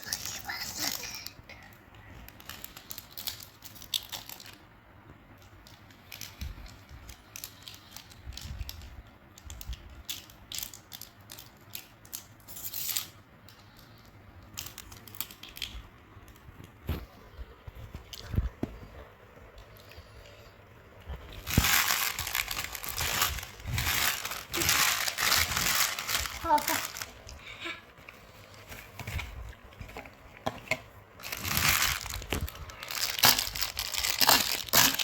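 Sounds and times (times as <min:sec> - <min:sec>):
wrappers crinkling and rustling: 0:00.0 - 0:01.6, 0:02.2 - 0:04.7, 0:05.3 - 0:18.6, 0:19.5 - 0:35.0.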